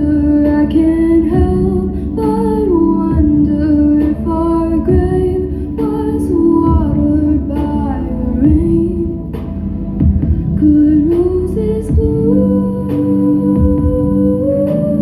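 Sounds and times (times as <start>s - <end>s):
woman singing wordless notes: 0.0s - 9.5s, 10.5s - 15.0s
backing track with soft beat: 0.0s - 15.0s.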